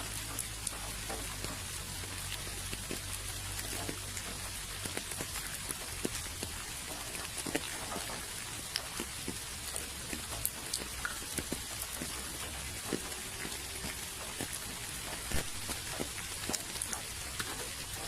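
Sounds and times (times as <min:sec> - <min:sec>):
raindrops ticking on a surface: 0:00.0 - 0:18.0
steady rainfall hiss: 0:00.0 - 0:18.0.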